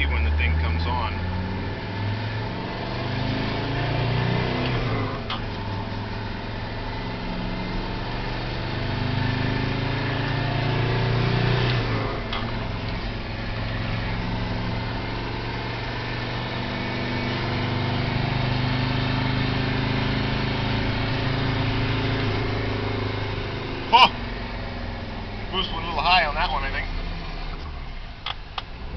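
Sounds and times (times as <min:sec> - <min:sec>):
turbo diesel engine under load: 0:00.0 - 0:28.9.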